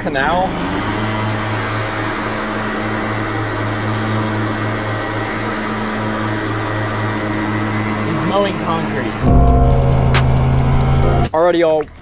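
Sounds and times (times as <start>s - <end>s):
boat motor humming: 0.0s - 11.3s.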